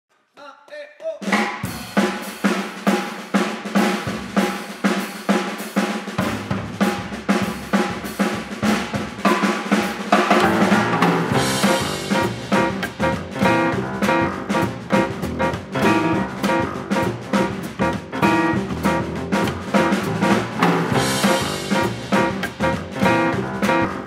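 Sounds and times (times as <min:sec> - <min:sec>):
drum kit beat: 0:01.0 - 0:24.0
swing jazz band: 0:01.7 - 0:24.0.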